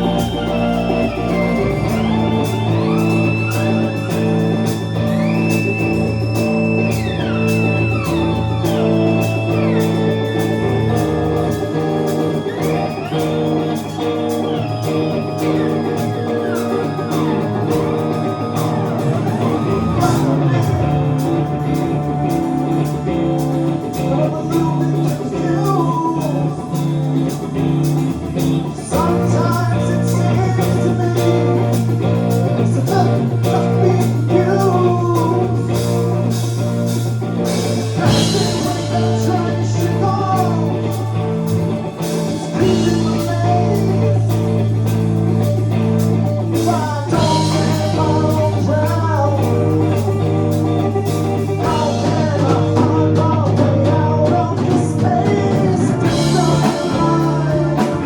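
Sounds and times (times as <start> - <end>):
bass line: 0.0 - 58.0
electric guitar: 0.0 - 58.0
rock band playing live: 0.0 - 58.0.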